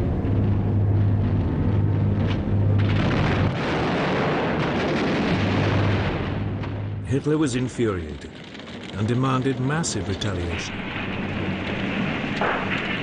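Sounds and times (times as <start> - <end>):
booming explosions: 0.0 - 13.0
low engine drone: 0.0 - 13.0.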